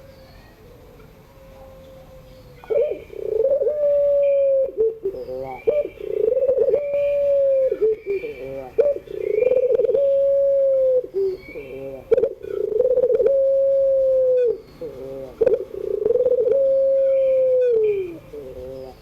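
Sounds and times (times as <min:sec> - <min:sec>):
small birds chirping: 0:00.0 - 0:04.4, 0:05.0 - 0:10.2, 0:11.0 - 0:13.2, 0:14.3 - 0:19.0
dove cooing: 0:00.6 - 0:19.0.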